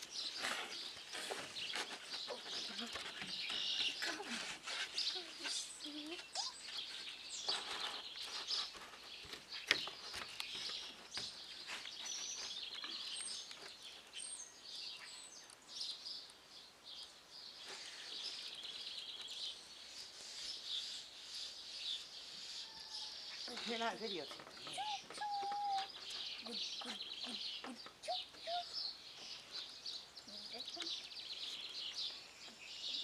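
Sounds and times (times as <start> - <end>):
songbirds chirping and trilling: 0.0 - 33.0.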